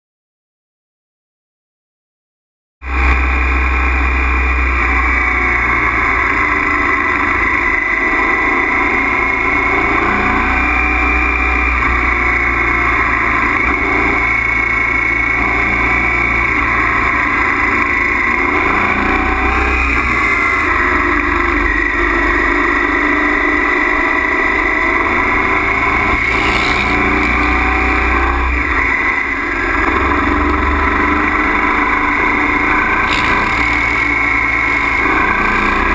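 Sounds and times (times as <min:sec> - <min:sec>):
motorcycle engine running: 0:02.8 - 0:35.9.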